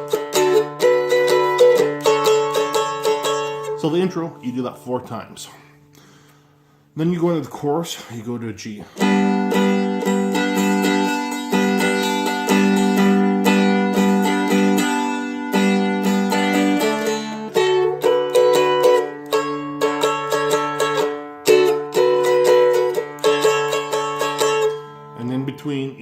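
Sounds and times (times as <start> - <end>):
strummed string instrument: 0.0 - 5.3, 8.8 - 26.0.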